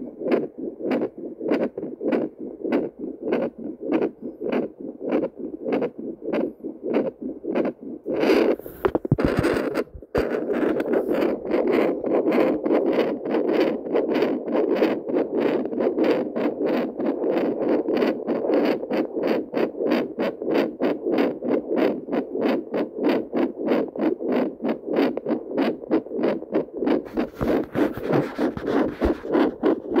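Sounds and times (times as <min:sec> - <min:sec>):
probe scraping on skin: 0:00.0 - 0:30.0
whooshing heartbeat pulses: 0:00.0 - 0:30.0.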